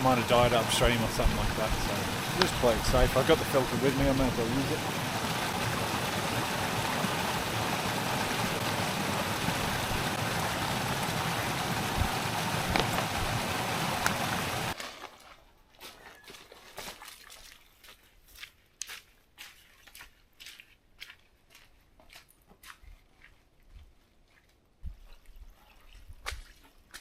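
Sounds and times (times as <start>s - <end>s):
stream trickling water: 0.0s - 20.6s, 24.3s - 27.0s.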